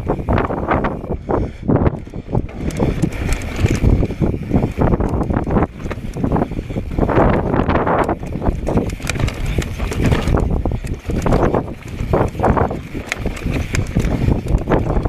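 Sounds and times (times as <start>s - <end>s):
bike rattling over stones: 0.0s - 15.0s
wind rush on microphone: 0.0s - 15.0s.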